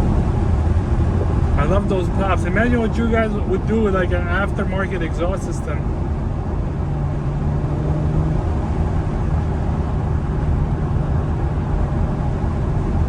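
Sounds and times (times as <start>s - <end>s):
car exhaust drone: 0.0s - 13.0s
wind and road noise: 0.0s - 13.0s.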